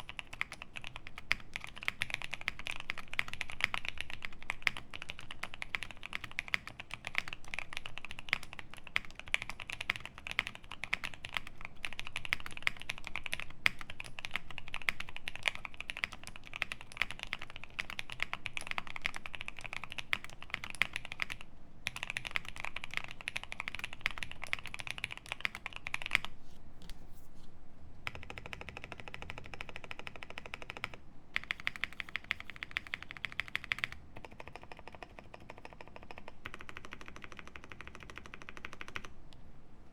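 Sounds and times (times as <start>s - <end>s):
mechanical keyboard typing: 0.0s - 26.3s, 28.0s - 39.2s.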